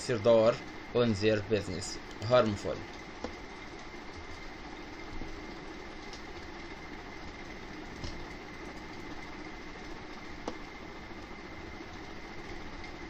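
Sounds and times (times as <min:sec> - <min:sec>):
background hum and hiss: 0:00.0 - 0:13.0
faint high whine: 0:00.0 - 0:13.0.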